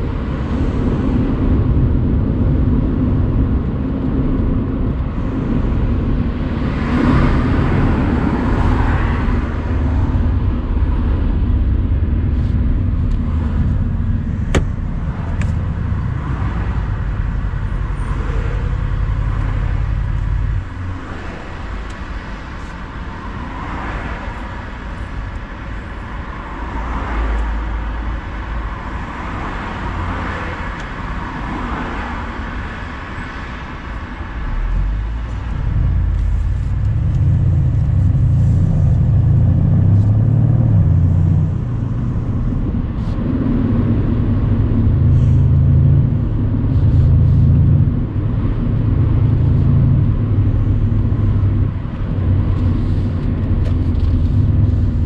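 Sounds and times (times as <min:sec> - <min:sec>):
wind noise: 0:00.0 - 0:27.3, 0:28.5 - 0:55.0
car engine pulling loudly: 0:00.0 - 0:55.0.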